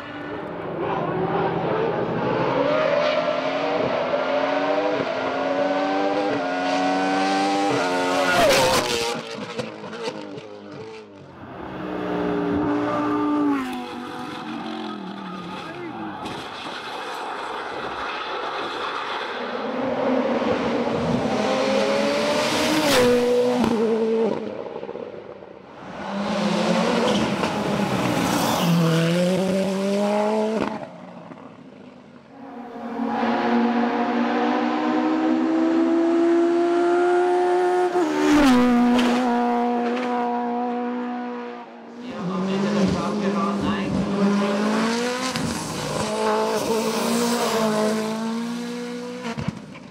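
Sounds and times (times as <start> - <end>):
race cars accelerating: 0.0 - 49.8.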